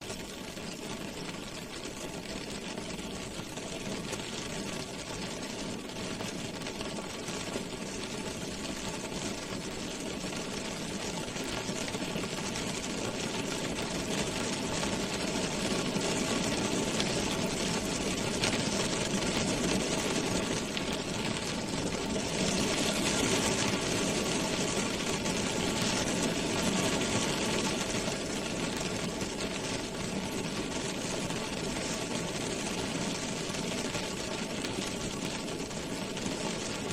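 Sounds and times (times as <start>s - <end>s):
rain drumming on car roof: 0.0s - 36.9s.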